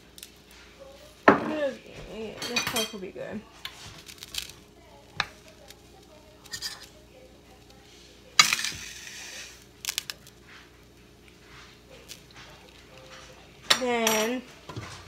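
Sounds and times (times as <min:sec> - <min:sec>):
meat sizzling in pan: 0:00.0 - 0:12.8.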